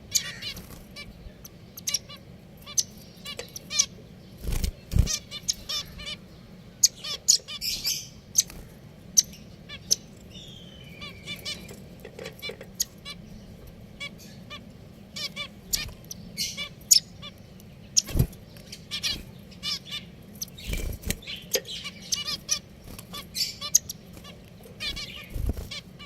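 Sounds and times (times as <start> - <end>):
finches calling: 0.0 - 26.0.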